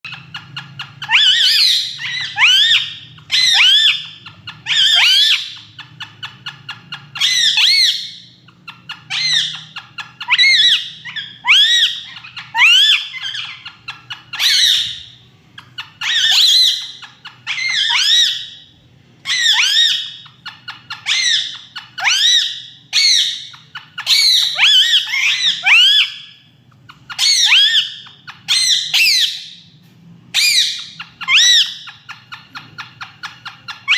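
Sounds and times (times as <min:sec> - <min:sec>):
parrot squawking: 0:00.0 - 0:33.9.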